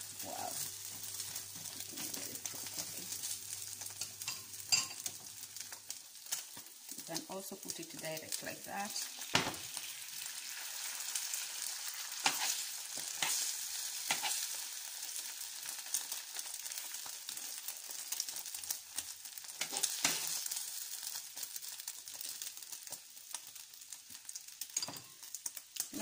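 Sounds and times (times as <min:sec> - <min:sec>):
bread sizzling in oil: 0:00.0 - 0:26.0.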